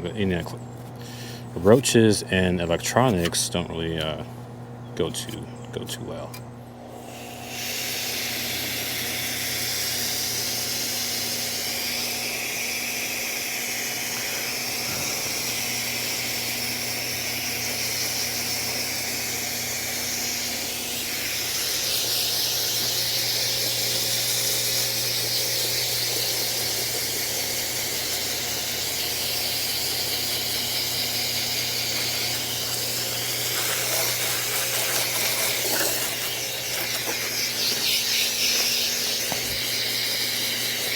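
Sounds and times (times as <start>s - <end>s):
steady low hum: 0.0s - 40.9s
water hose spraying: 7.1s - 40.9s.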